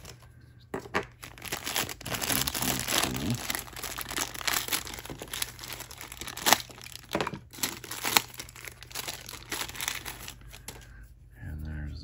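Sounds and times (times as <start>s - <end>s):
plastic wrapper crinkling and tearing: 0.0s - 0.2s, 0.8s - 10.8s.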